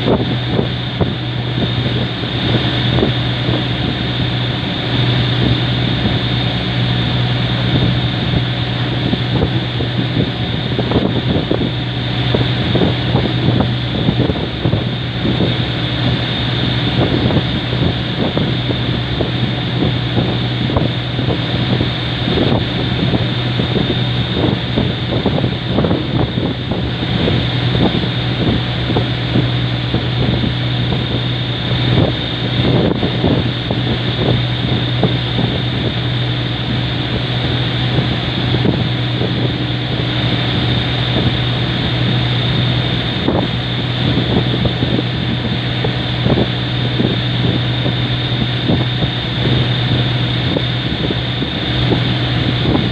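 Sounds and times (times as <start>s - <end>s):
boat engine humming: 0.0s - 52.9s
wind buffeting microphone: 0.0s - 52.9s.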